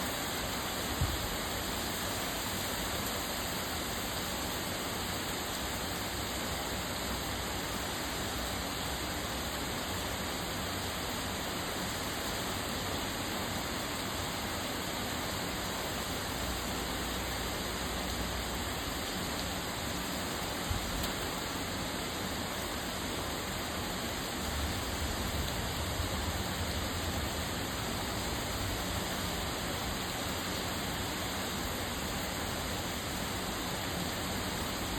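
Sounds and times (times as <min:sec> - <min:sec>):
torrential rain hiss: 0:00.0 - 0:34.9.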